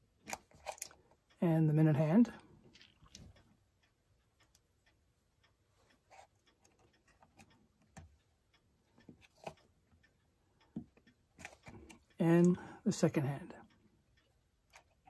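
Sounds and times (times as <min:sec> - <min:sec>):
faint clock hand clicks and taps: 0:00.0 - 0:15.0.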